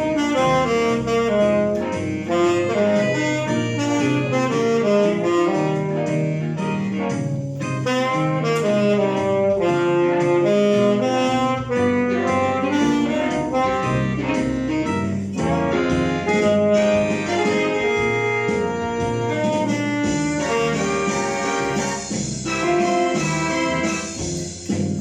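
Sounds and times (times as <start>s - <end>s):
alto saxophone fast run: 0.0s - 24.6s.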